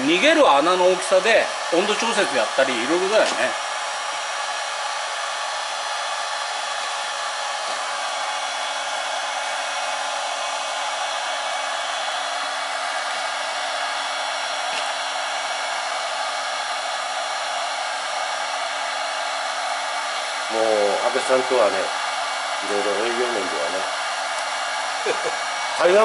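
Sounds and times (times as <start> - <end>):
heat gun blowing air: 0.0 - 26.0.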